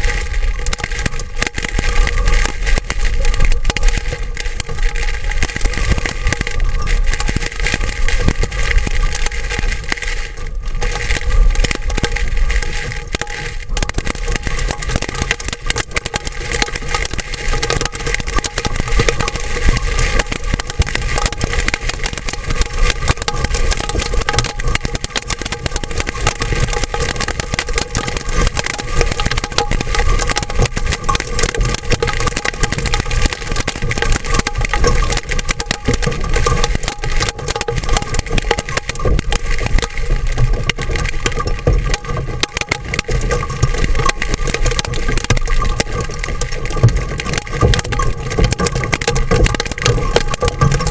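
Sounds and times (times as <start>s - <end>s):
hailstones clattering on roof: 0.0s - 50.9s
heavy rain: 0.0s - 50.9s.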